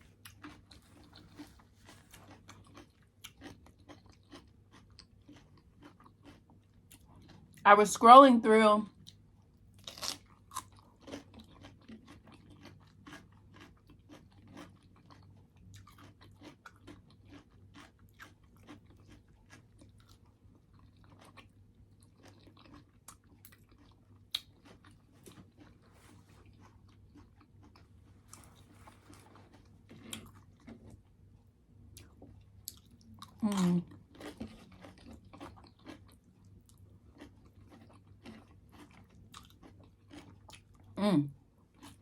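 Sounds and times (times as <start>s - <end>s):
chewing and crunching food: 0.0s - 42.0s.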